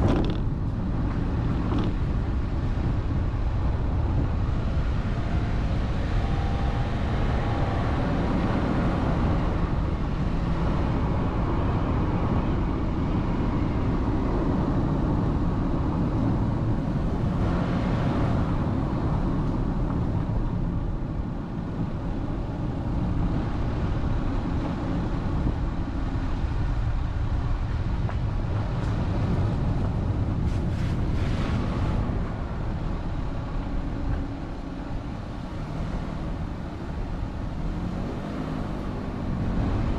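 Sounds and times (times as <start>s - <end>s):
vehicle road noise rumble: 0.0s - 39.9s.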